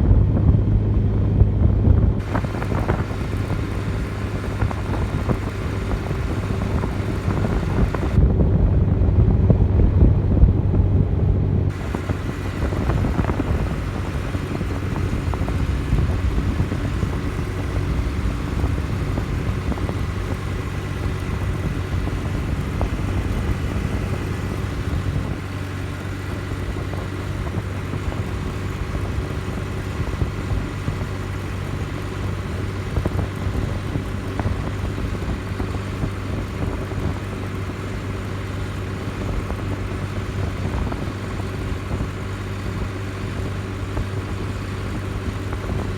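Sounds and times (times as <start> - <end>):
road rumble: 0.0 - 45.9
vehicle engine running: 0.0 - 45.9.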